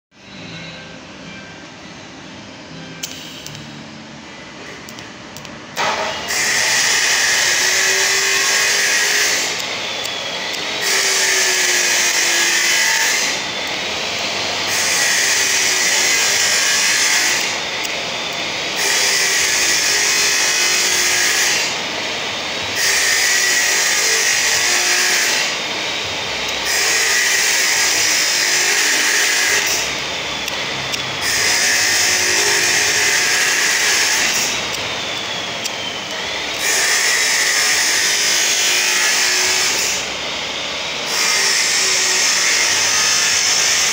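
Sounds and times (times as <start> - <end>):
welding arc hiss-buzz: 5.8 - 43.9.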